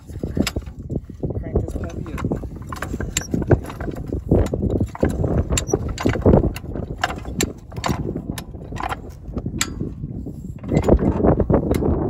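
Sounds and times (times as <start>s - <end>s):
jack pins clacking on metal bar: 2.1s - 12.0s.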